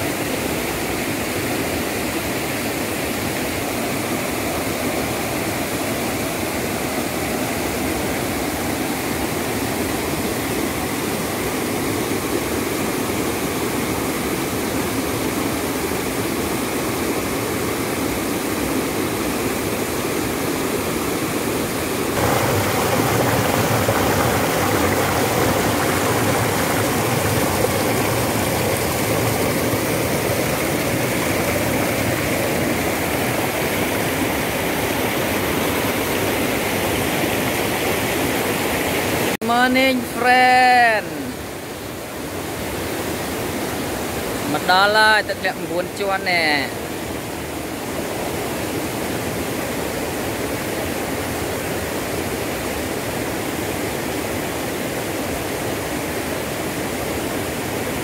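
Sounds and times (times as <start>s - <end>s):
stream rushing over boulders: 0.0s - 58.0s.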